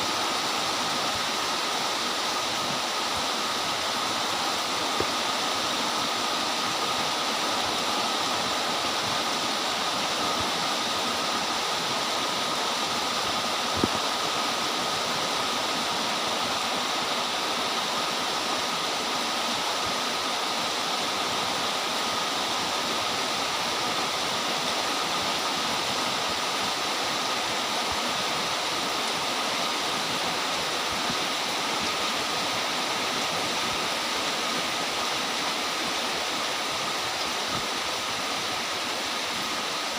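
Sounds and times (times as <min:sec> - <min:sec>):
torrential rain: 0:00.0 - 0:39.9.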